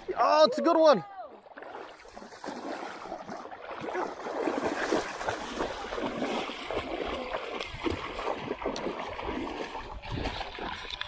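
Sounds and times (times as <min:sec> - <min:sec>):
wading through shallow water: 0:00.0 - 0:11.0.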